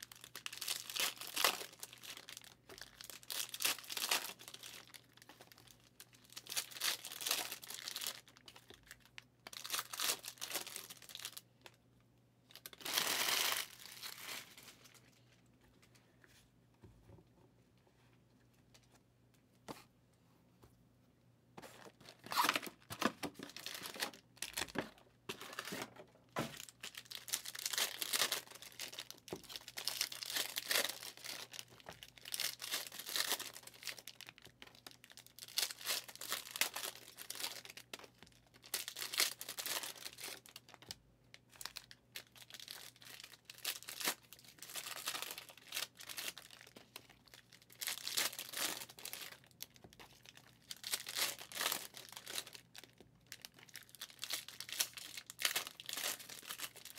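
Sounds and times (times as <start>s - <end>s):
foil wrappers tearing and crinkling: 0.0s - 11.4s, 12.6s - 14.9s, 22.1s - 25.9s, 26.6s - 40.9s, 41.6s - 56.9s.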